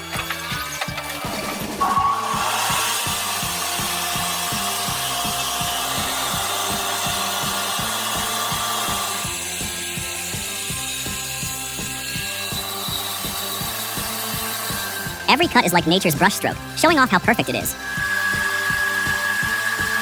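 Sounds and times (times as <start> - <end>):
saw cutting through log: 0.0 - 15.3, 17.7 - 20.0
background music with beat: 0.1 - 20.0.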